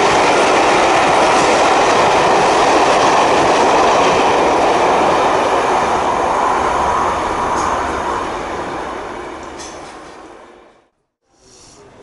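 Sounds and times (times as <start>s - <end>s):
outdoor ambience: 0.0s - 12.0s
train on railway: 0.0s - 12.0s.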